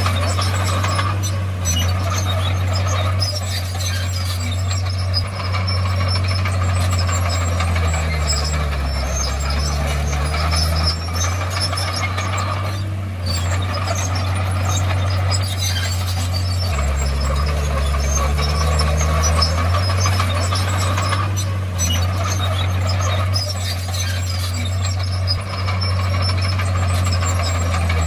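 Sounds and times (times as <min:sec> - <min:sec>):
bulldozer diesel engine running: 0:00.0 - 0:28.0
machine clanks and squeaks: 0:00.0 - 0:28.0.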